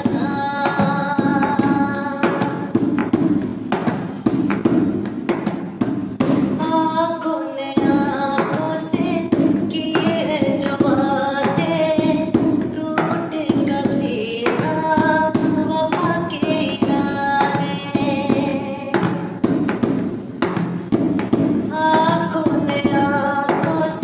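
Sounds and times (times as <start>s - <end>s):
hand-tapped percussion: 0.0s - 24.0s.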